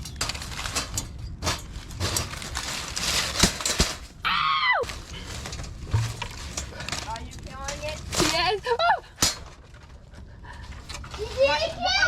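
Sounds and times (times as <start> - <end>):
rustling and scuffling: 0.0 - 12.0.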